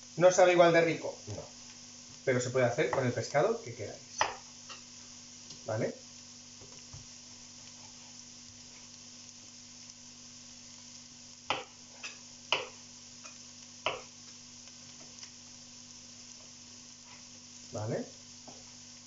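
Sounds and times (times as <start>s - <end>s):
vegetables sizzling in pot: 0.0s - 19.0s.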